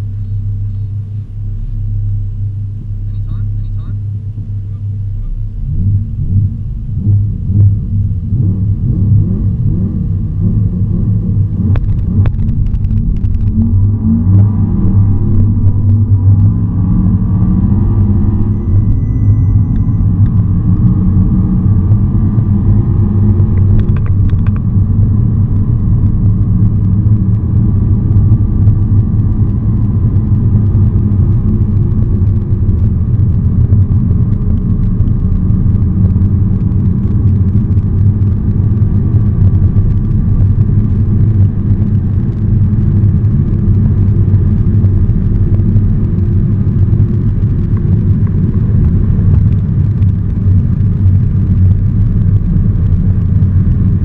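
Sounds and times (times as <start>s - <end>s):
car engine roaring: 0.0s - 54.0s
tyre and wind noise: 8.5s - 54.0s.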